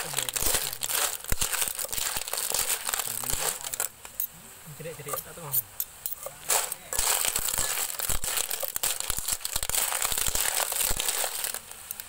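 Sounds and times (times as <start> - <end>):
cockles clattering in a metal wok: 0.0 - 4.3, 5.0 - 12.0
steady high hiss: 0.0 - 12.0.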